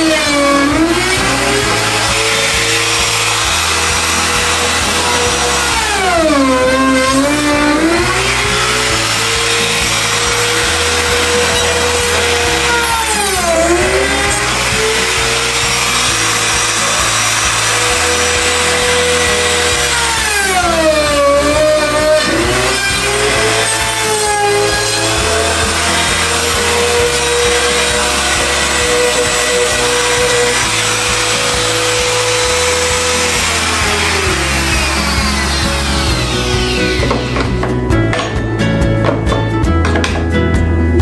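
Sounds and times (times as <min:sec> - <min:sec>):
router whining cutting wood: 0:00.0 - 0:38.2.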